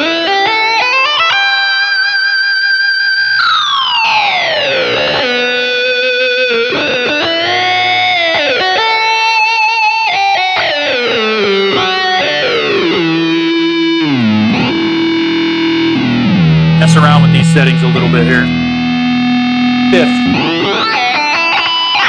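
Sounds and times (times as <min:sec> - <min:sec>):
buzzy synth guitar gliding: 0:00.0 - 0:22.0.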